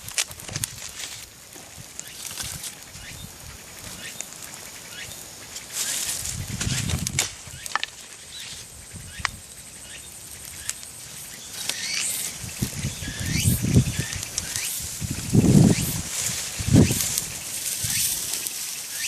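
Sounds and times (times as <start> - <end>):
bonfire pops and crackles: 0.0 - 19.0
birds chirping: 1.7 - 19.0.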